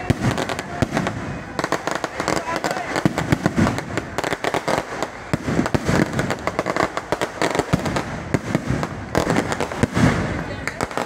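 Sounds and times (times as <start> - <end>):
fireworks bangs and crackles: 0.0 - 11.0
rockets bursting overhead: 0.0 - 11.0.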